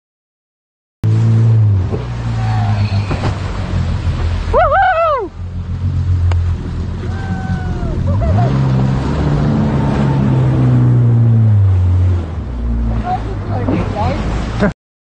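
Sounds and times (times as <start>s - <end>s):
jet ski engine revving: 1.0s - 14.7s
water splashing: 1.0s - 14.7s.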